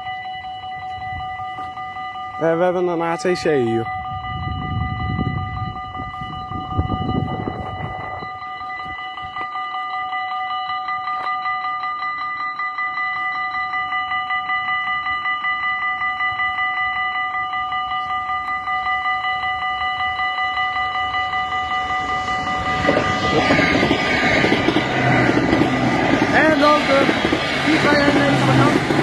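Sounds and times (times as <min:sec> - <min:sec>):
level crossing warning bells: 0:00.0 - 0:29.0.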